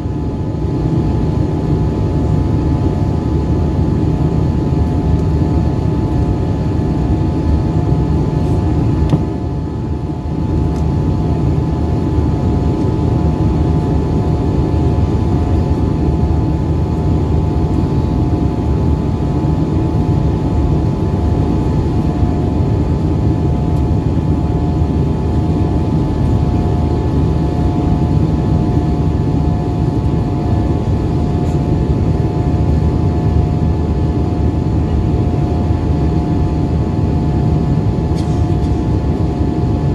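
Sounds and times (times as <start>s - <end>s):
jet engines heard from cabin: 0.0s - 39.9s.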